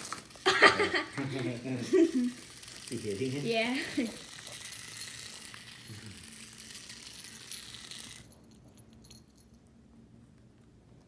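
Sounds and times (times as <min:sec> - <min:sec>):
toy mouse buzzing and rattling: 0:00.0 - 0:09.4.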